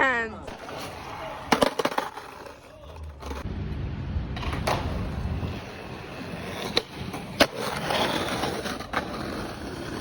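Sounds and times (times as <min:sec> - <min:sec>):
skateboard wheels rolling on pavement: 0:00.4 - 0:10.0.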